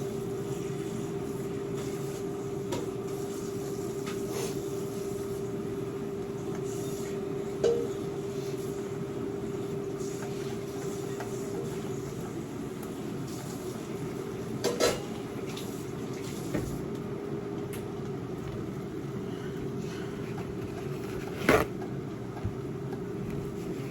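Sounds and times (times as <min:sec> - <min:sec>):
low kitchen hum: 0:00.0 - 0:23.9.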